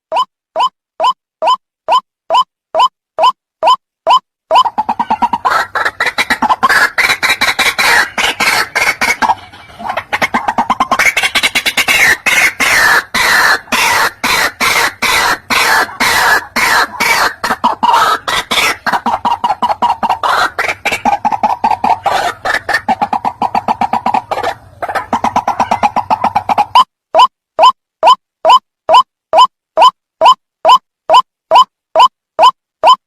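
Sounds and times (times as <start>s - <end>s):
waterhen croaking call: 3.2s - 31.7s.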